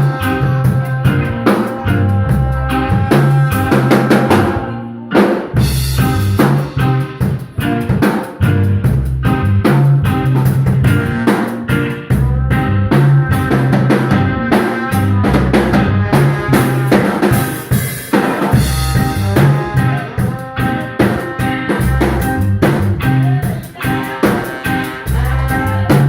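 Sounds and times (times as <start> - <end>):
drum kit beat: 0.0 - 26.0
live instrumental band: 0.0 - 26.0.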